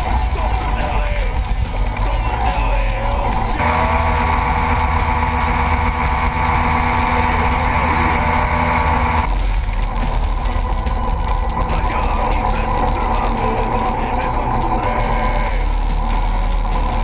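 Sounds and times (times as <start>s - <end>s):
moped engine running: 0.0s - 17.0s
wind rush on microphone: 0.0s - 17.0s.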